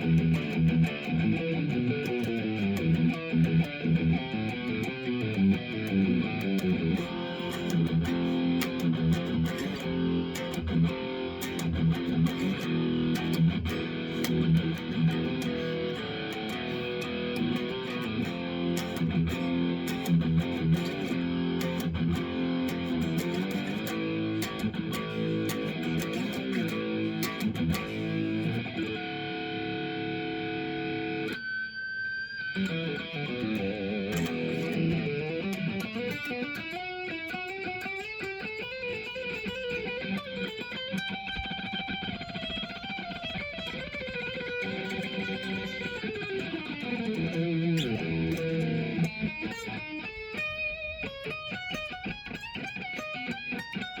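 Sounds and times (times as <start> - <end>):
electric guitar playing: 0.0 - 54.0.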